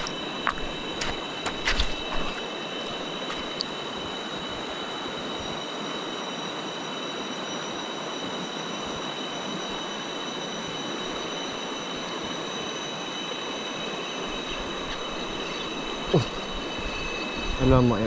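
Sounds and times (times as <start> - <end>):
high-pitched whining tones: 0.0 - 18.0.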